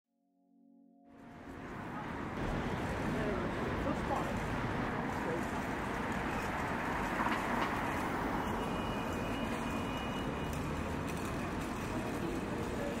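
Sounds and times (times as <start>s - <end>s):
low city rumble: 1.1s - 13.0s.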